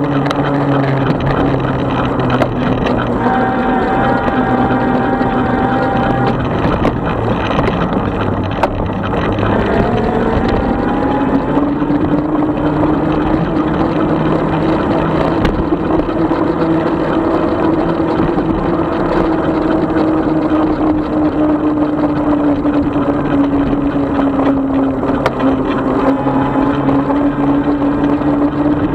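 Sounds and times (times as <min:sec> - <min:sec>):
electric motor whine: 0:00.0 - 0:28.9
wind and road noise: 0:00.0 - 0:28.9.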